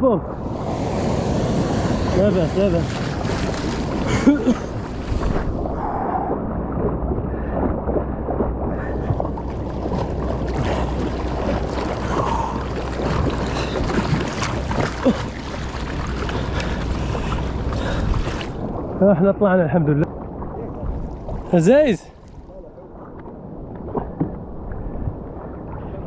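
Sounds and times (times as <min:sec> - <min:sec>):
surf breaking: 0:00.0 - 0:23.2
water sloshing and splashing: 0:00.0 - 0:26.0
wind rumbling on microphone: 0:00.0 - 0:26.0.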